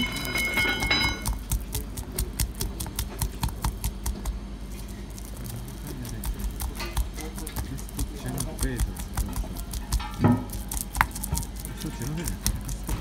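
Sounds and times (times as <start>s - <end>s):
pestle knocking in marble mortar: 0.0s - 4.4s, 5.2s - 13.0s.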